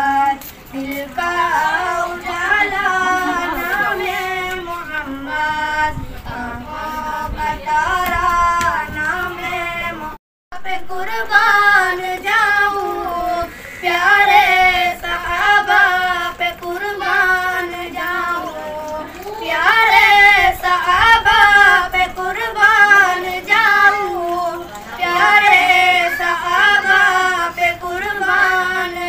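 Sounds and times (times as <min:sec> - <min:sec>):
two boys singing unaccompanied: 0:00.0 - 0:29.0.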